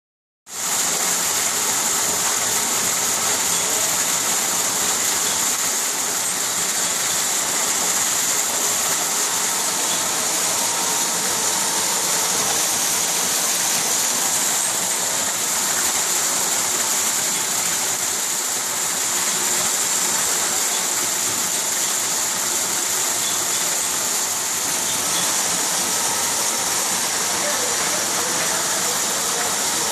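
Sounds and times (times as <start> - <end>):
electric pump running: 0.5 - 29.9
water splashing into a tank: 0.5 - 29.9.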